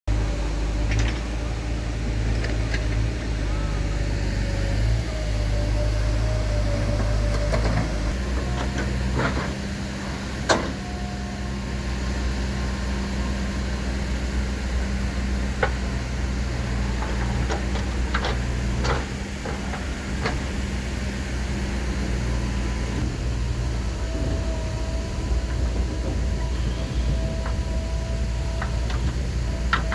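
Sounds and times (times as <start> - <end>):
diesel engine running: 0.1 - 29.9.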